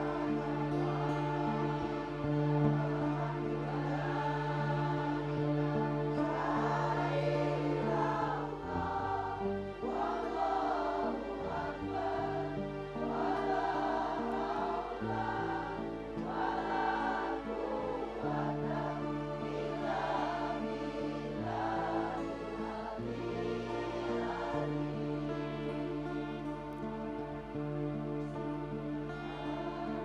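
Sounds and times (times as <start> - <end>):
group chanting in unison: 0.0 - 26.2
held low accompanying notes: 0.0 - 30.0.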